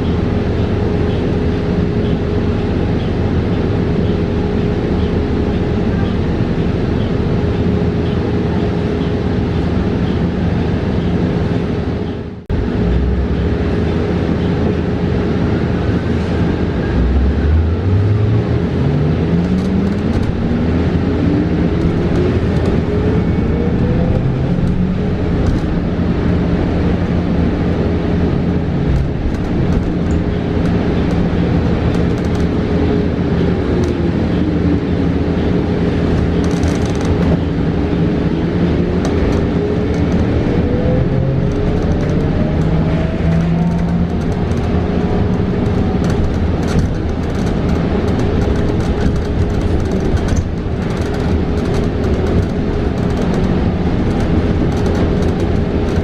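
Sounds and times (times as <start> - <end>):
bus road and cabin noise: 0.0 - 56.0.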